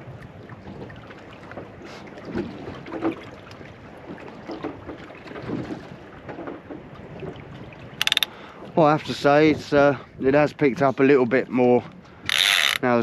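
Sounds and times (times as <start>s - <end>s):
water slapping against hull: 0.0s - 13.0s
wind buffeting microphone: 0.0s - 13.0s.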